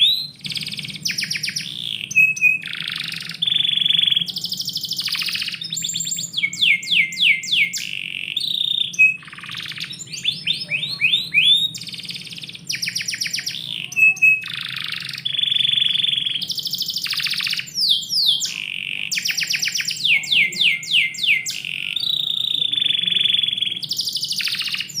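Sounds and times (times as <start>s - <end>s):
canary singing: 0.0s - 25.0s.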